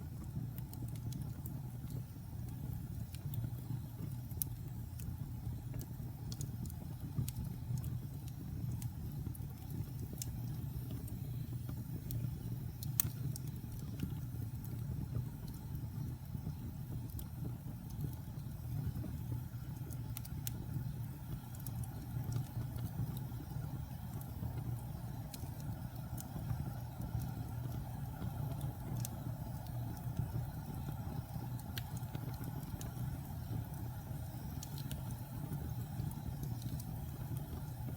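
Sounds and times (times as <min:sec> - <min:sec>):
logs crackling and popping: 0:00.0 - 0:37.9
low rumble of flames: 0:00.0 - 0:37.9.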